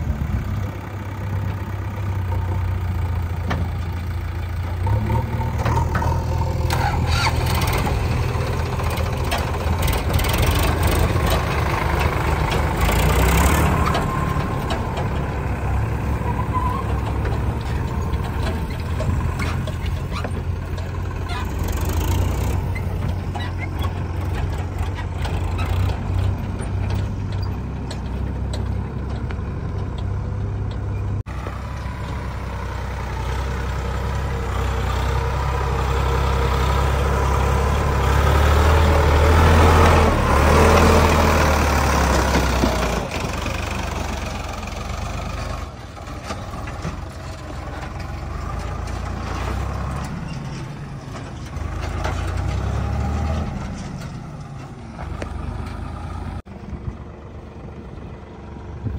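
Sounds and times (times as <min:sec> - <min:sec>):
tractor diesel engine rumbling: 0:00.0 - 0:58.9.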